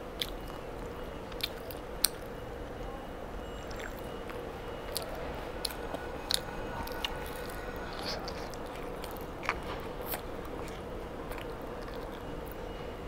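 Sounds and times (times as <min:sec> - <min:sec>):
child chewing with wet smacks: 0:00.0 - 0:13.0
faint hum: 0:00.0 - 0:13.0.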